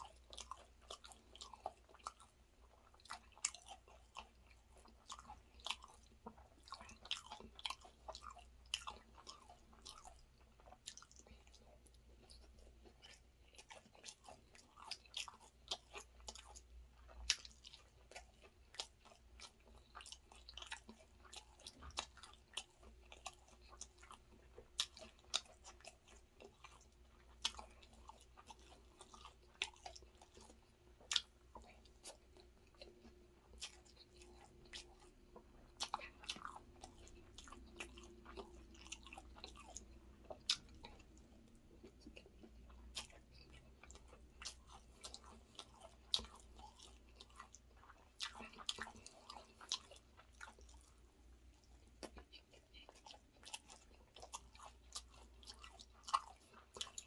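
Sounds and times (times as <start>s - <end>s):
chewing and mouth clicks: 0.0s - 57.0s.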